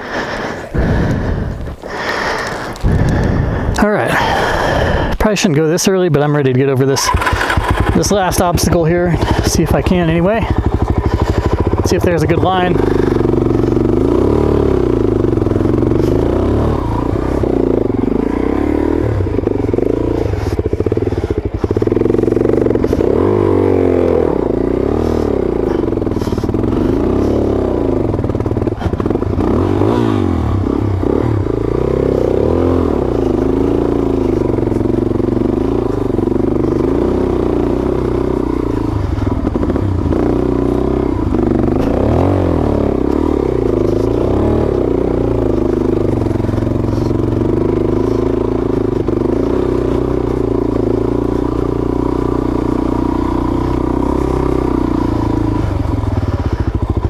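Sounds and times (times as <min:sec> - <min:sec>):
motorcycle engine revving: 0:00.0 - 0:05.2, 0:06.8 - 0:57.0.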